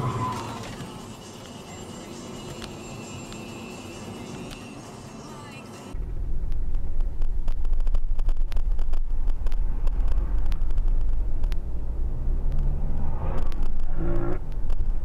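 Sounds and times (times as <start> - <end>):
car low rumble: 0.0 - 15.0.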